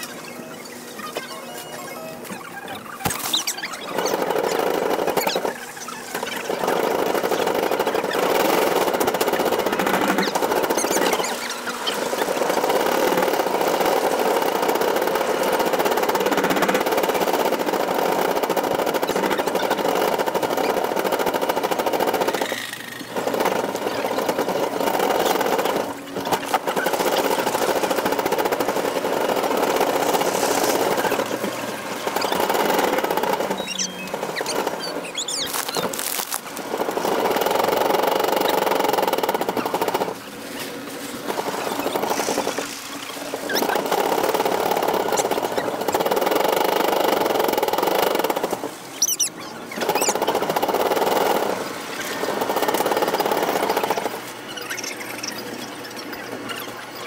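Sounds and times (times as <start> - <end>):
shopping cart rolling and rattling: 0.0 - 57.0.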